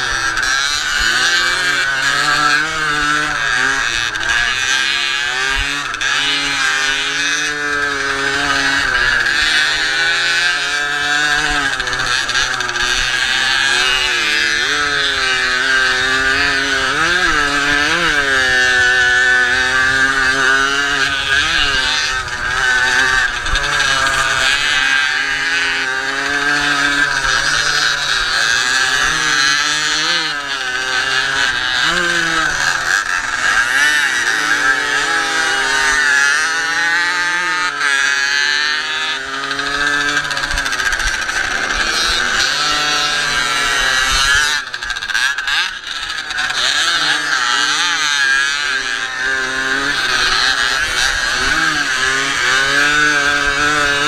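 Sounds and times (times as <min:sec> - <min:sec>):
two-stroke engine racing: 0:00.0 - 0:54.0.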